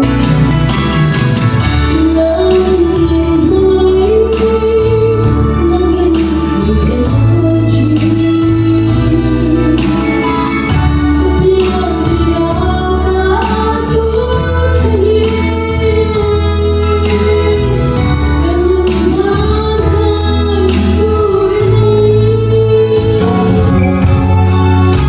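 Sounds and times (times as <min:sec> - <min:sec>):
sustained bass notes: 0:00.0 - 0:25.0
woman singing into a microphone: 0:01.6 - 0:25.0.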